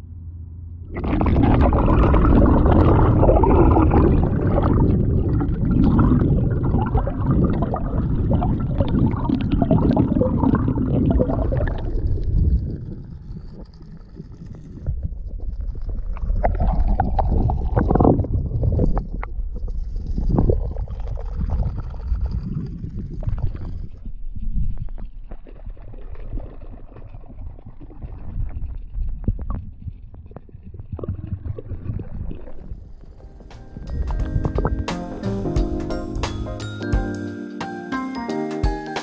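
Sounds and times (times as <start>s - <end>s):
underwater rumbling and gurgling: 0.8s - 34.9s.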